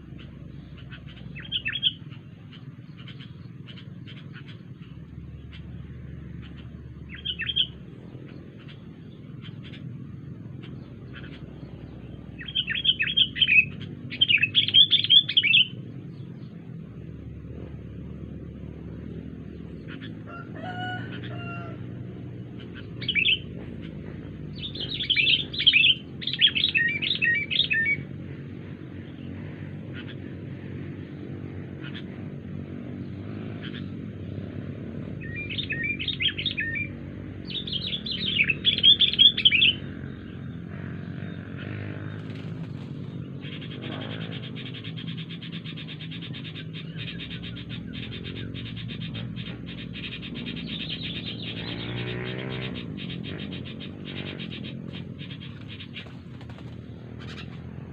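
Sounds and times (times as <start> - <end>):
bird chattering calls: 0.0 - 17.7, 19.0 - 34.3, 35.0 - 57.9
steady low hum: 0.0 - 57.9.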